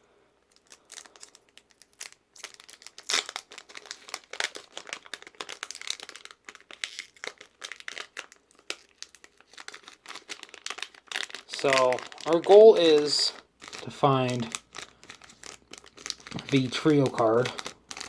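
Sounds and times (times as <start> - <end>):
foil wrapper crinkling: 0.5 - 18.0.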